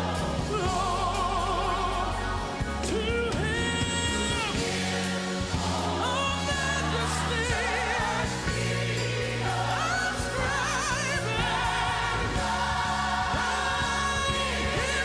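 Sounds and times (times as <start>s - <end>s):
instrumental backing with bass: 0.0s - 15.0s
voices singing gospel song: 0.0s - 15.0s.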